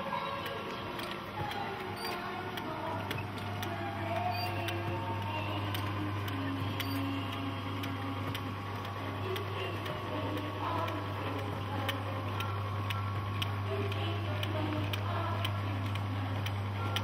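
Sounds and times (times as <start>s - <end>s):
low mechanical hum: 0.0s - 17.0s
light mechanical clicks: 0.2s - 17.0s.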